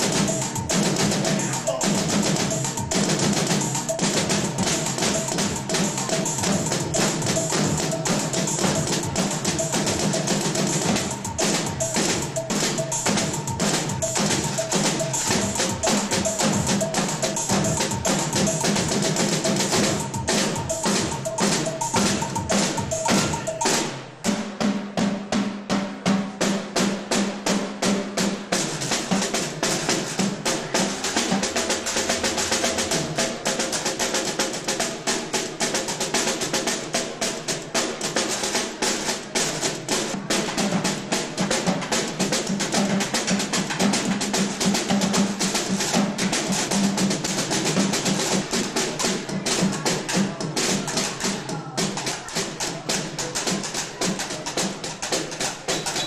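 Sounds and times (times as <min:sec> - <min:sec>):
fast snare drum strokes: 0:00.0 - 0:56.0.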